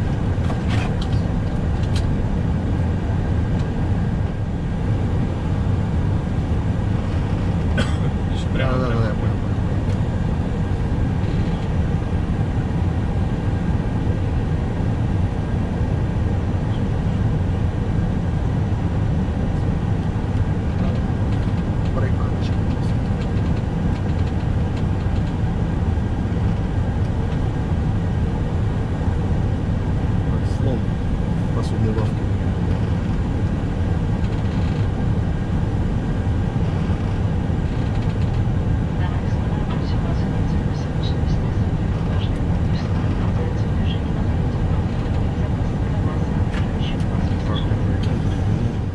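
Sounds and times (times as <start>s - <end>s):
aircraft cockpit rumble: 0.0s - 48.9s.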